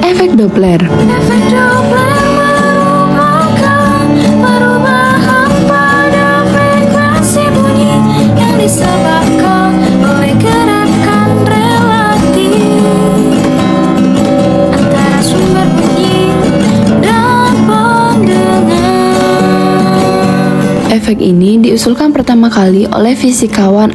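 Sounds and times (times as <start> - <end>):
strummed acoustic guitar: 0.0 - 21.9
woman singing: 0.0 - 22.1.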